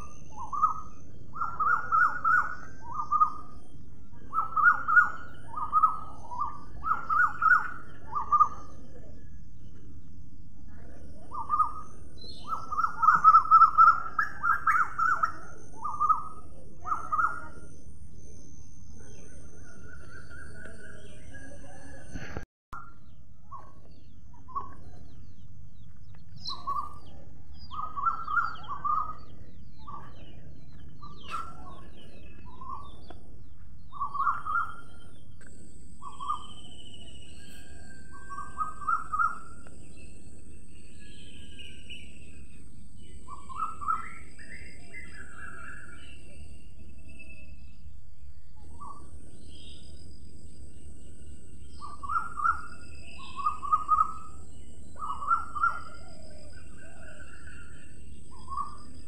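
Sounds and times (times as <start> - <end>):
birds chirping: 0.0 - 59.0
low background noise: 0.0 - 59.0.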